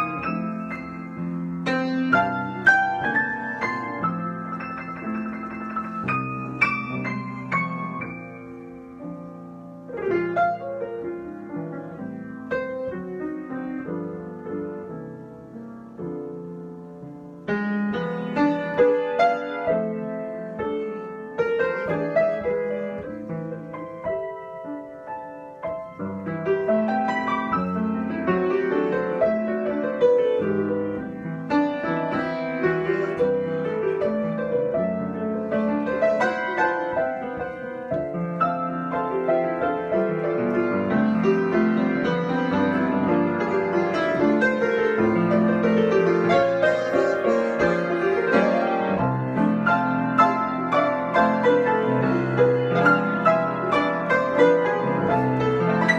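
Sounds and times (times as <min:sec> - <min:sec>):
solo piano: 0:00.0 - 0:55.9.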